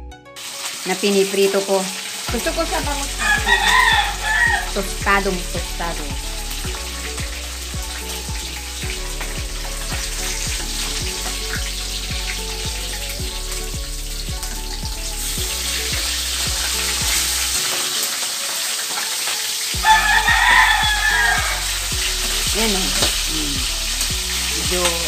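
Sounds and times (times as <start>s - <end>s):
fish sizzling in hot oil: 0.4s - 25.0s.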